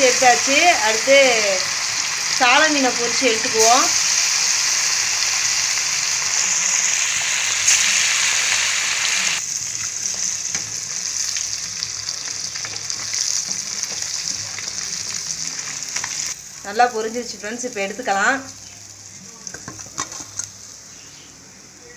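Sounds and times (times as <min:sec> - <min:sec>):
fish sizzling in hot oil: 0:00.0 - 0:21.1.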